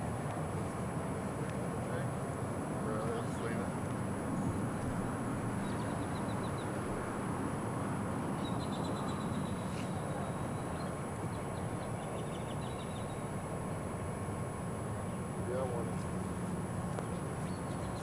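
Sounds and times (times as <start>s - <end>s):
steady outdoor rushing noise: 0.0s - 18.0s.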